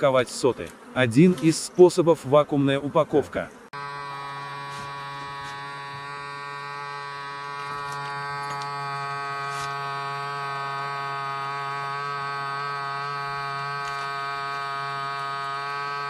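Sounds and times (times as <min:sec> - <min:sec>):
vacuum pump buzzing hum: 0:00.0 - 0:16.0.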